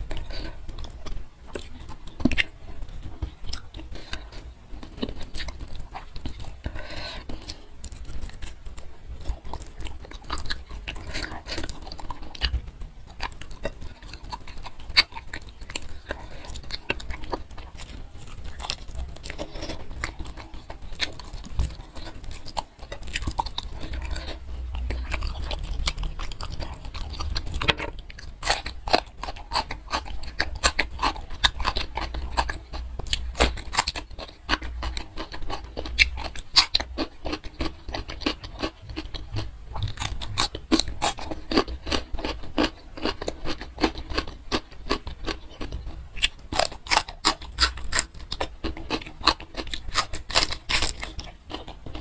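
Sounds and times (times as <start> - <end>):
chewing: 0.0 - 52.0.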